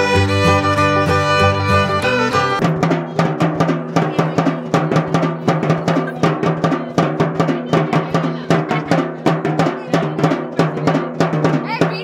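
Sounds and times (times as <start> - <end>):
barrel drum beaten fast: 0.0 - 12.0.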